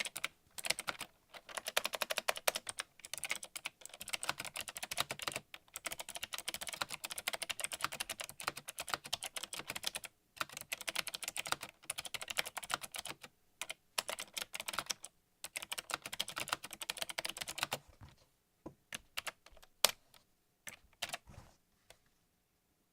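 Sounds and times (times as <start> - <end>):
mechanical keyboard typing: 0.0 - 17.8, 18.9 - 20.0, 20.7 - 21.2.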